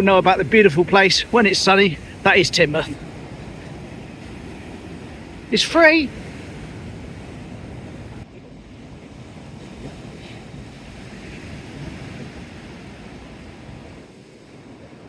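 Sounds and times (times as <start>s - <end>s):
sea waves washing ashore: 0.0s - 15.0s
wind buffeting microphone: 0.0s - 15.0s.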